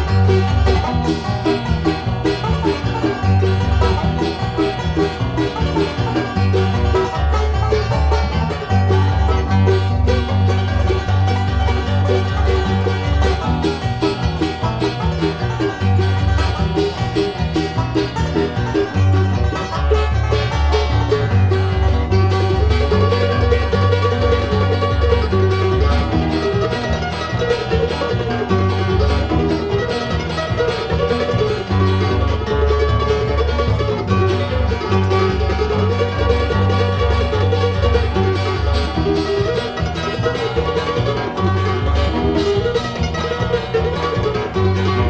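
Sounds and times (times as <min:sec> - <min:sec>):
banjo picking: 0:00.0 - 0:45.0
bluegrass band playing: 0:00.0 - 0:45.0
walking bass line: 0:00.0 - 0:45.0.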